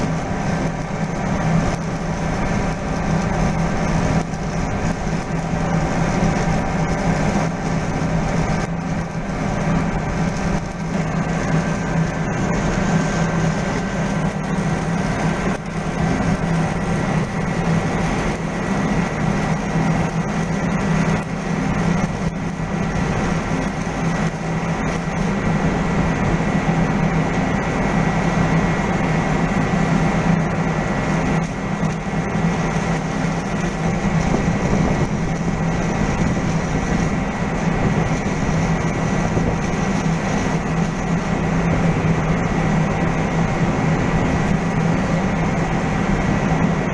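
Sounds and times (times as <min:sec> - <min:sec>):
heavy machinery droning: 0:00.0 - 0:46.9.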